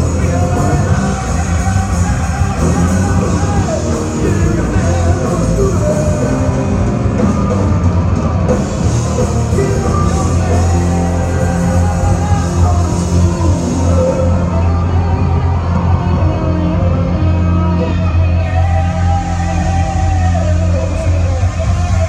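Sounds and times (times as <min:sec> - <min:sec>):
rock music with singer: 0:00.0 - 0:22.0.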